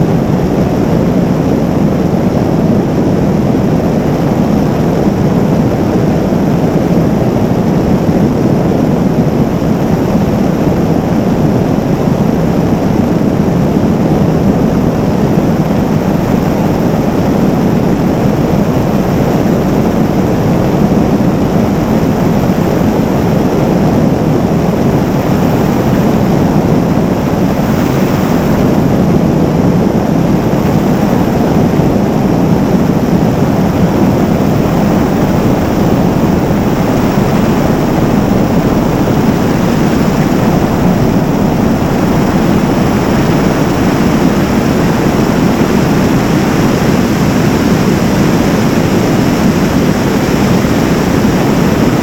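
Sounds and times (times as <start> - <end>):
helicopter rotor and engine: 0.0 - 52.0
rushing wind: 0.0 - 52.0.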